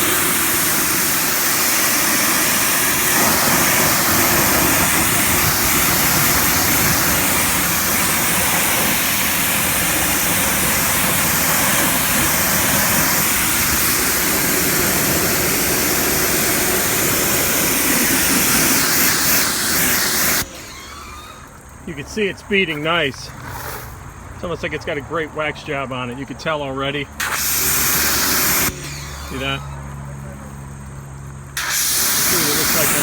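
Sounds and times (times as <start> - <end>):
water spray rinsing truck: 0.0 - 33.0.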